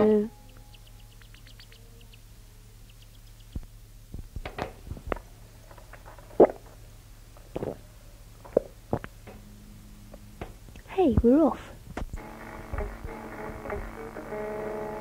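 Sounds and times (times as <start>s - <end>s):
low mains hum: 0.0s - 15.0s
tape hiss: 0.0s - 15.0s.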